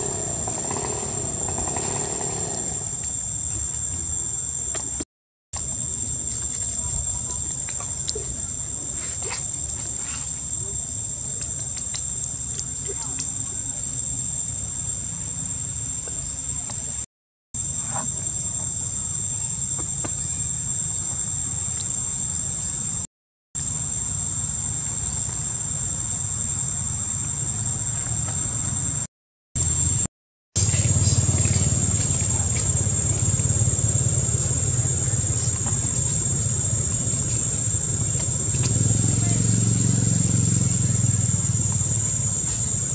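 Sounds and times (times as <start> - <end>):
insects droning: 0.0 - 5.0, 5.6 - 42.9.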